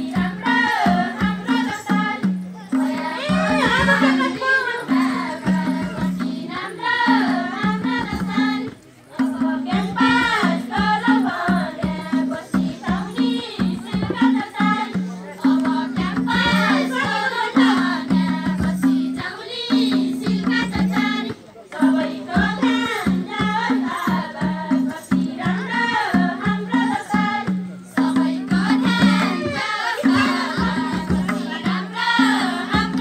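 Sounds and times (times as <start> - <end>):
voices singing folk song: 0.0 - 33.0.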